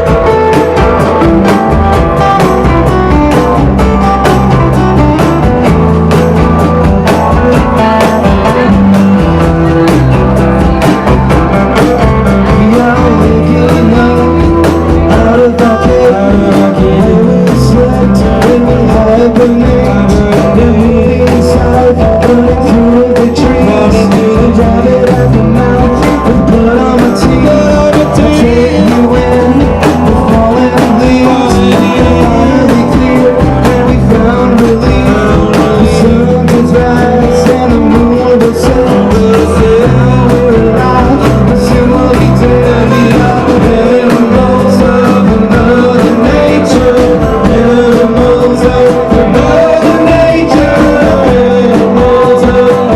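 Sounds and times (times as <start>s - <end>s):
live rock band playing: 0.0s - 52.9s
person singing: 0.0s - 52.9s.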